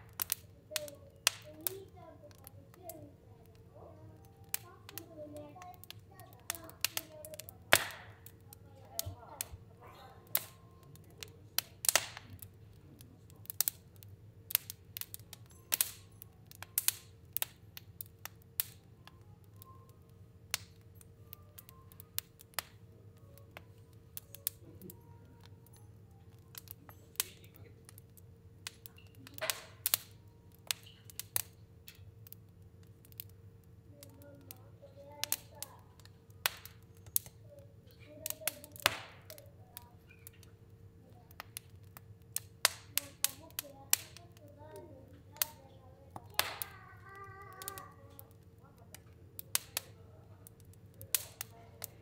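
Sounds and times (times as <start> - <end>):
fire crackling and popping: 0.0 - 52.0.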